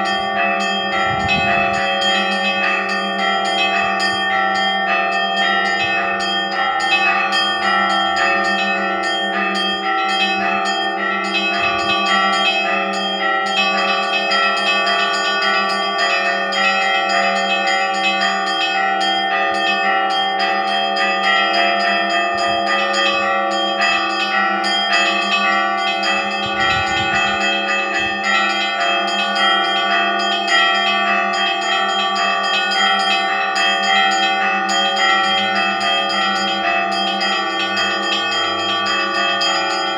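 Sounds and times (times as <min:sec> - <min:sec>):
large bell humming: 0:00.0 - 0:39.9
small church bells pealing: 0:00.0 - 0:39.9.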